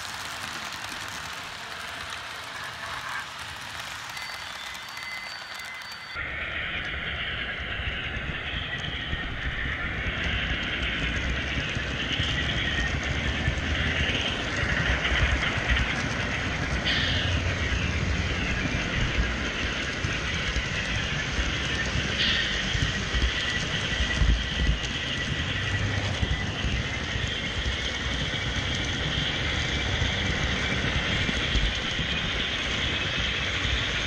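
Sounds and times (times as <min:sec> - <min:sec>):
model train wheels rumbling: 0:00.0 - 0:34.0.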